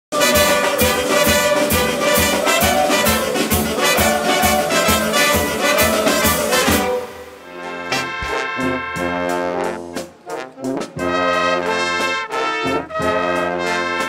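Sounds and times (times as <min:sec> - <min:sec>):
steady drum beat: 0:00.1 - 0:07.2, 0:07.9 - 0:12.4
brass band playing: 0:00.1 - 0:14.0.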